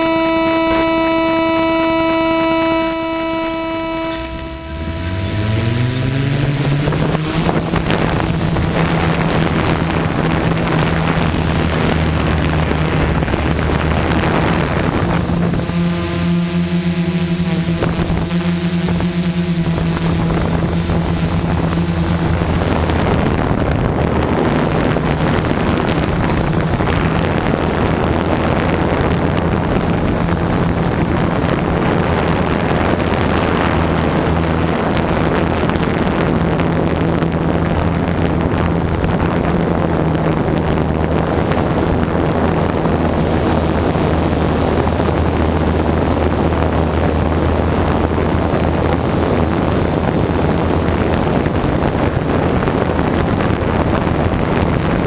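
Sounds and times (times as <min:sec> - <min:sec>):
drone motors humming: 0:00.0 - 0:55.0
wind rushing on microphone: 0:00.0 - 0:55.0.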